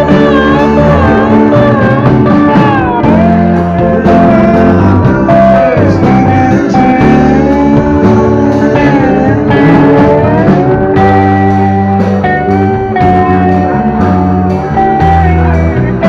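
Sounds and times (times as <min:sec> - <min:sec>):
electric guitar bending notes: 0:00.0 - 0:16.0
rock band playing slow song: 0:00.0 - 0:16.0.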